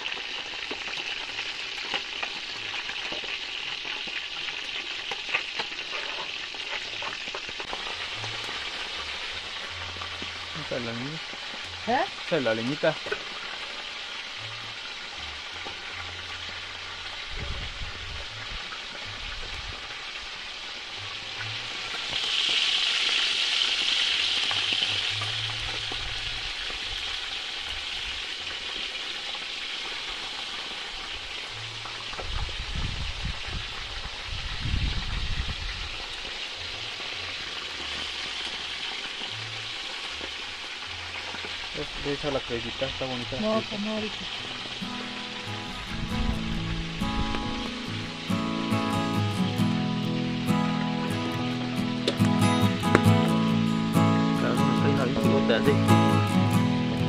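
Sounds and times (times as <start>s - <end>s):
fish sizzling in oil: 0.0s - 57.0s.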